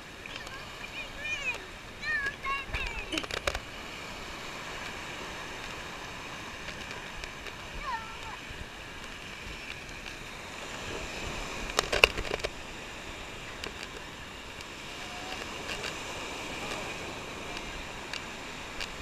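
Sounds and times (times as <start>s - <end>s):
surf washing up a beach: 0.0s - 19.0s.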